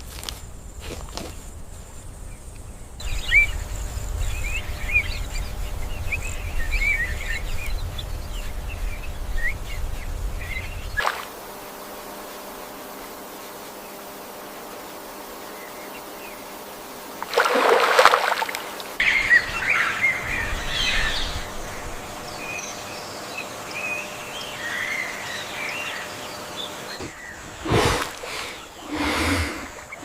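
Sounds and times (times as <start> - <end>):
small birds chirping: 0.8 - 17.2, 18.3 - 30.0.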